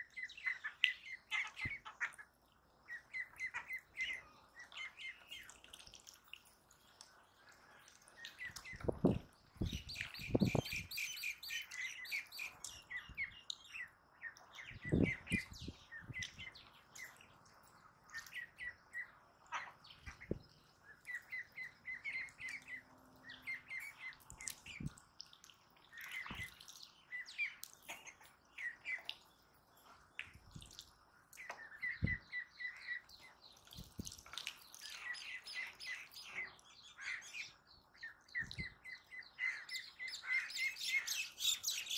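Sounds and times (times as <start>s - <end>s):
ducklings peeping: 0.0s - 6.2s, 6.8s - 29.4s, 30.6s - 41.9s.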